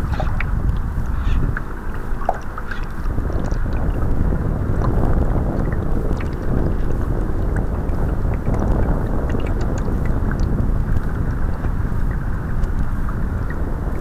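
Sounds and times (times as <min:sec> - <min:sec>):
water splashing against hull: 0:00.0 - 0:14.0
wind buffeting microphone: 0:00.0 - 0:14.0.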